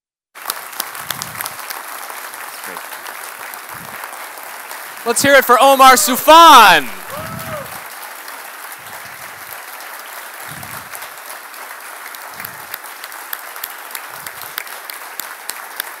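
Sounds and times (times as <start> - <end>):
audience applauding: 0.4 - 16.0.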